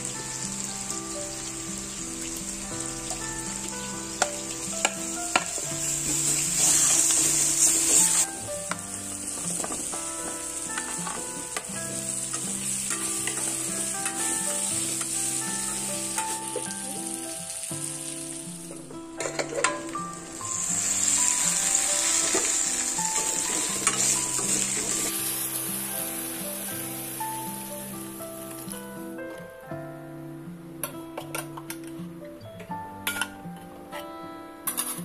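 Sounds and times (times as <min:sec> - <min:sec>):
vegetables sizzling in hot oil: 0:00.0 - 0:28.8
soft background music: 0:00.0 - 0:35.0.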